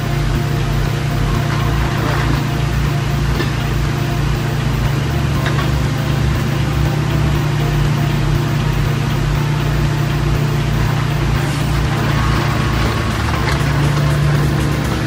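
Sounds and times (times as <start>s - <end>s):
diesel engines droning: 0.0s - 15.0s
hydraulic whine: 0.0s - 15.0s.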